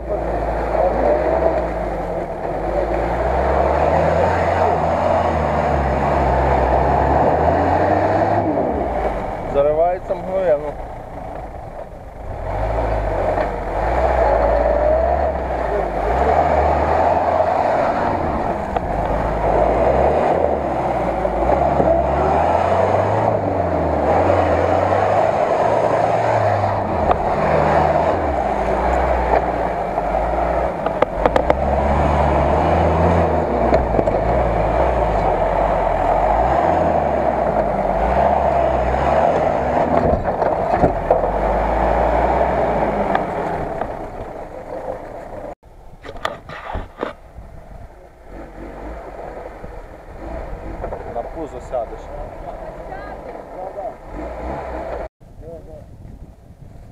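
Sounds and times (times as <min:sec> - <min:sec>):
off-road vehicle engine revving: 0:00.0 - 0:55.6.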